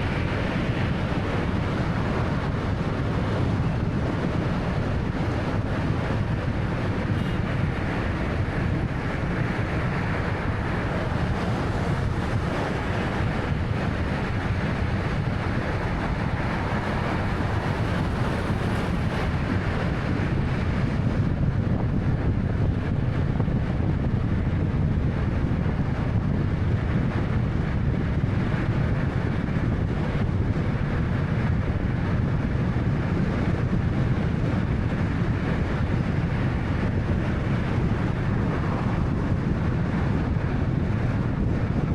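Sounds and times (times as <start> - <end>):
wind noise: 0.0 - 41.9.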